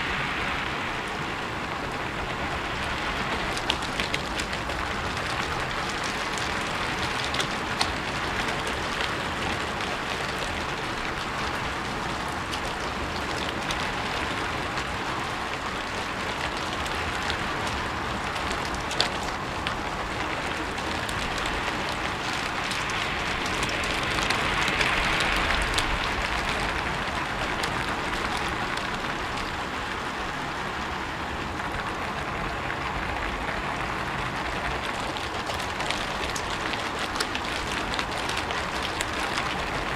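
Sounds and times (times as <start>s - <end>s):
rain on a roof: 0.0s - 39.9s
raindrops ticking on roof: 0.0s - 39.9s.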